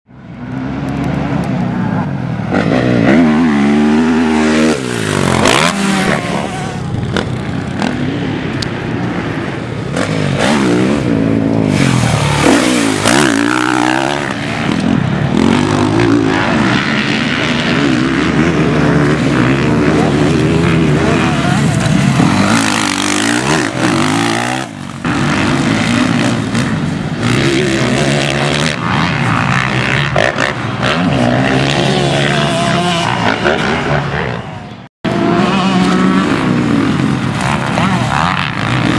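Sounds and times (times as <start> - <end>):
dirt bike engines revving: 0.1 - 38.9.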